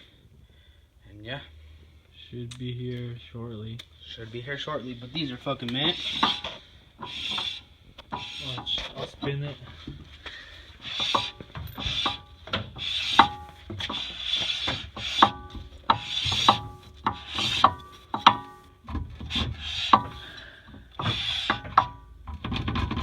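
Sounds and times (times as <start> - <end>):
brake pads scraping rotor: 4.0 - 23.0.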